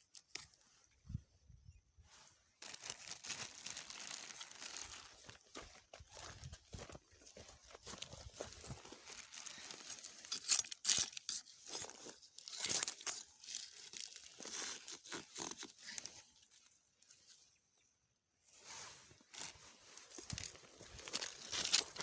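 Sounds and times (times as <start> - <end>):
plants and leaves rustling: 2.0 - 17.4, 18.4 - 22.0.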